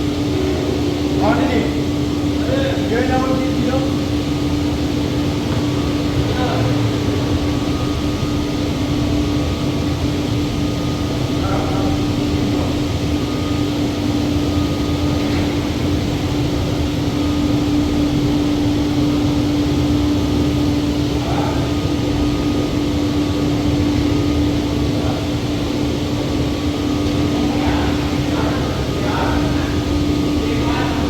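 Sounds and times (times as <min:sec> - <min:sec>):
broad rushing noise: 0:00.0 - 0:31.0
mechanical drone with humming tone: 0:00.0 - 0:31.0.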